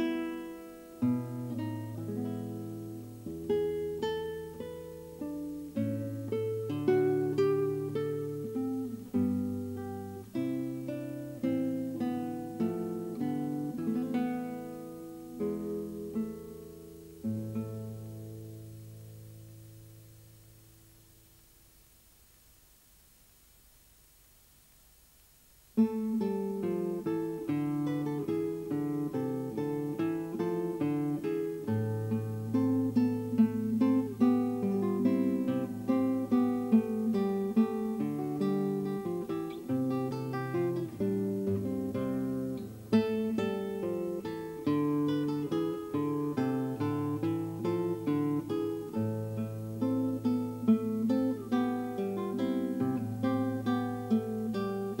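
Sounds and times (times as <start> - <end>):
acoustic guitar music: 0.0 - 21.2, 25.8 - 55.0.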